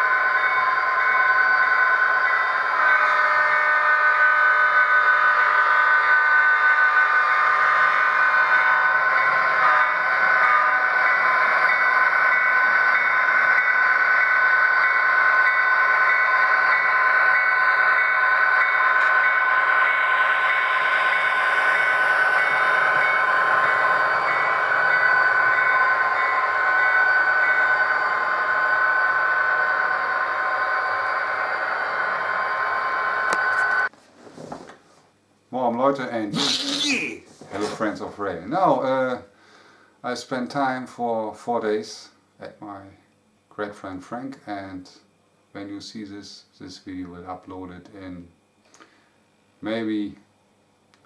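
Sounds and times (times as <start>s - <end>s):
train steady high tones: 0.0s - 33.9s, 35.9s - 50.2s.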